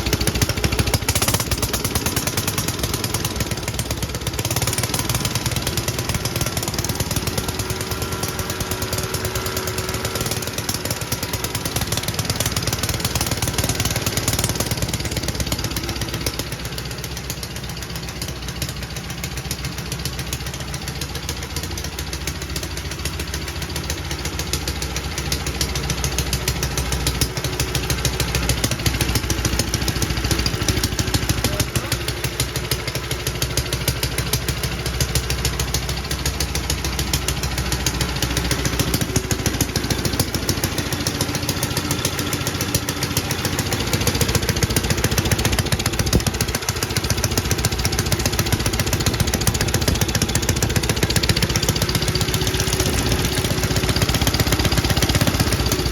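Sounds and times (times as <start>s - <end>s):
single-cylinder engine running: 0.0s - 55.9s.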